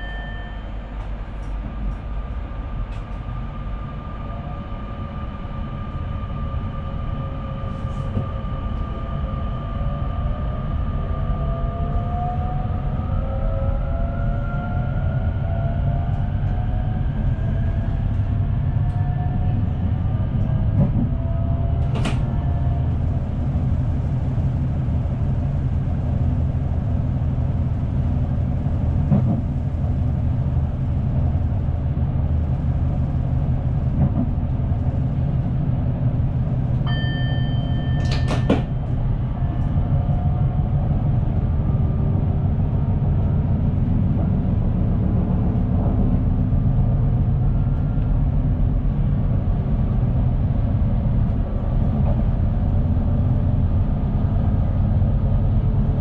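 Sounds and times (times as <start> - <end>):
train rumbling on track: 0.0 - 56.0.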